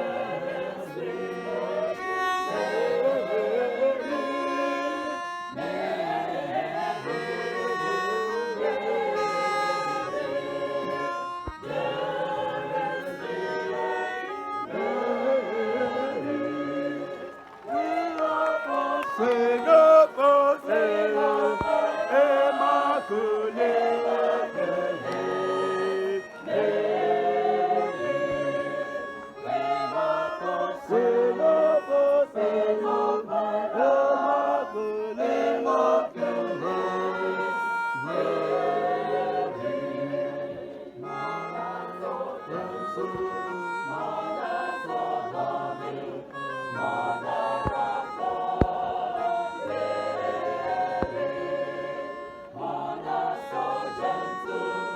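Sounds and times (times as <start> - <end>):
choir singing a hymn: 0.0 - 54.9.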